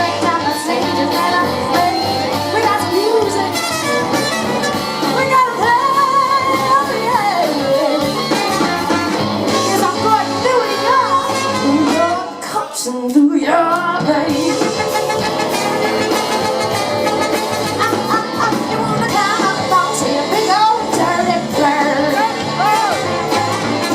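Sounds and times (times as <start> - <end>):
electric guitar: 0.0 - 12.6, 13.5 - 23.9
live rock band playing: 0.0 - 12.9, 13.5 - 23.9
person singing: 0.0 - 23.9.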